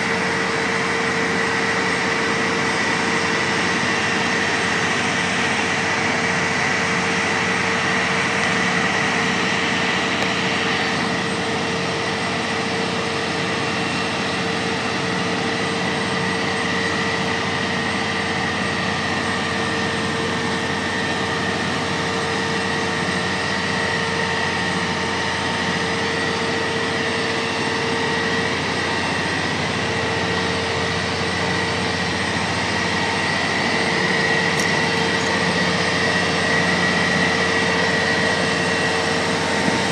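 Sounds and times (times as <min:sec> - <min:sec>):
crane diesel engine drone: 0:00.0 - 0:39.9
high whine: 0:00.0 - 0:39.9.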